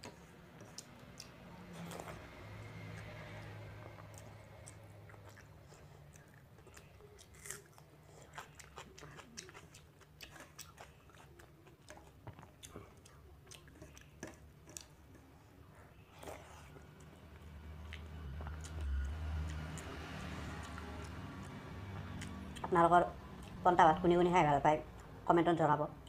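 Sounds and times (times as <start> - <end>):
wet chewing clicks and smacks: 0.0 - 15.2, 17.0 - 22.7
low steady hum: 0.0 - 26.0.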